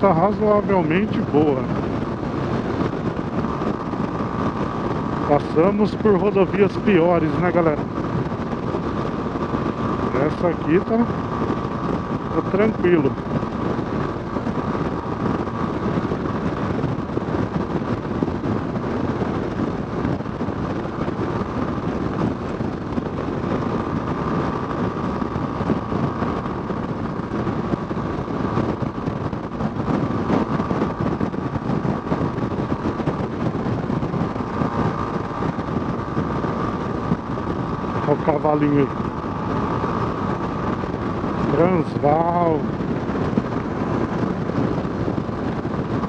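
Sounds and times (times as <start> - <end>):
motorcycle engine cruising: 0.0 - 46.0
wind rushing past microphone: 0.0 - 46.0.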